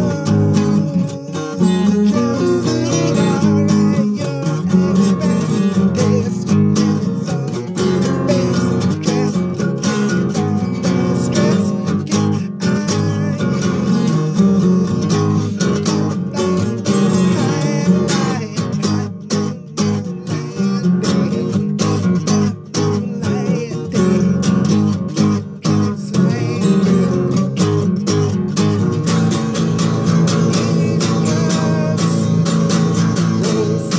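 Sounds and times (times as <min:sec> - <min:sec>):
guitar strummed in steady rhythm: 0:00.0 - 0:33.9.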